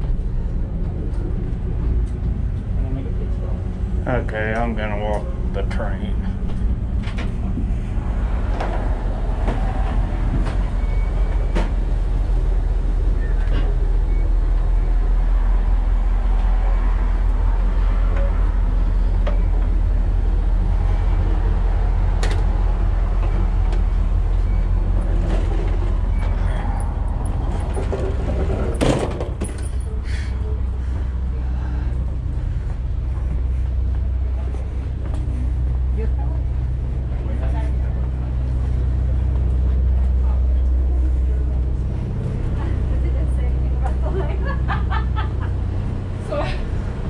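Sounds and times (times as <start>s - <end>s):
train rumble: 0.0s - 47.0s.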